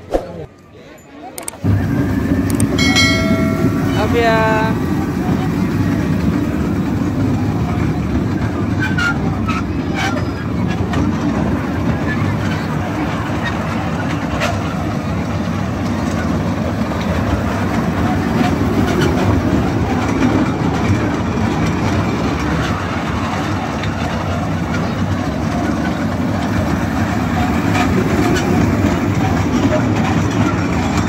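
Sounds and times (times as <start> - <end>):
train cars rumbling on rails: 1.6 - 31.0.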